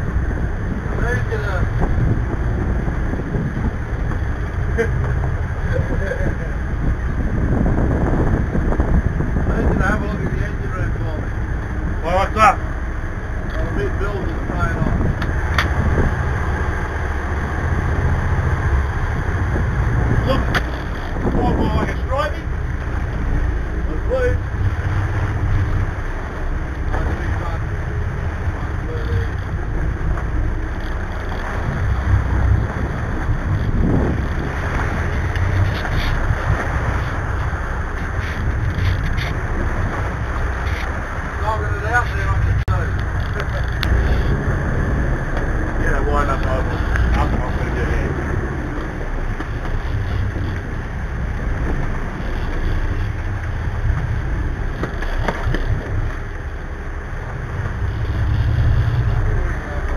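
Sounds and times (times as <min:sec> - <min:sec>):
water rushing along boat hull: 0:00.0 - 0:59.9
wind rumbling on microphone: 0:00.0 - 0:59.9.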